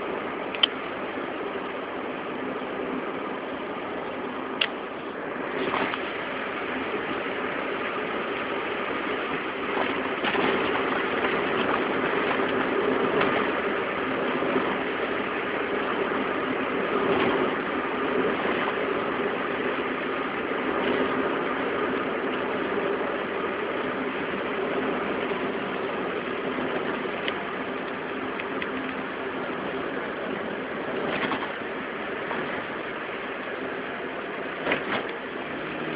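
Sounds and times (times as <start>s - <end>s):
constant low hum: 0.0s - 35.9s
vehicle mechanical running noise: 0.0s - 35.9s.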